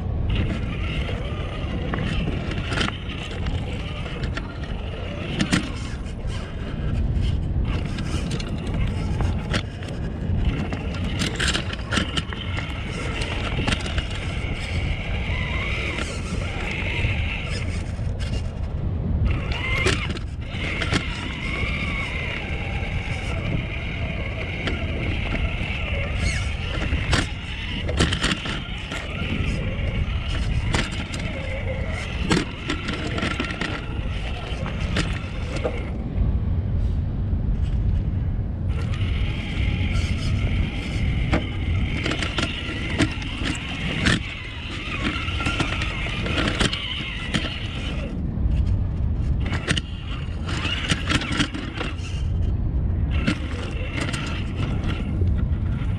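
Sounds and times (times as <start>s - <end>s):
electric motor and gears whining: 0.0s - 55.9s.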